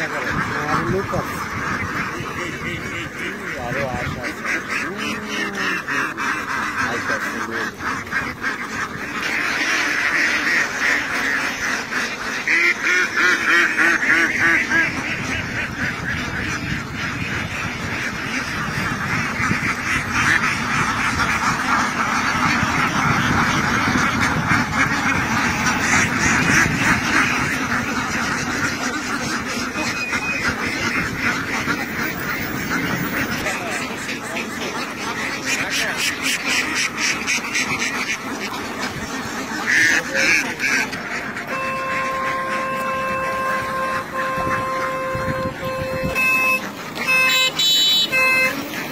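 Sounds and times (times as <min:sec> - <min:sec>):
flock of ducks quacking: 0:00.0 - 0:48.9.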